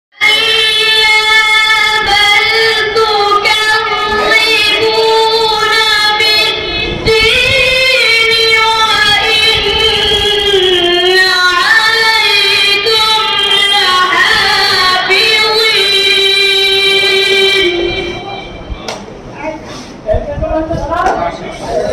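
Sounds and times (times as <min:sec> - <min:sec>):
boy reciting melodically into microphone: 0:00.2 - 0:18.8, 0:19.4 - 0:21.9.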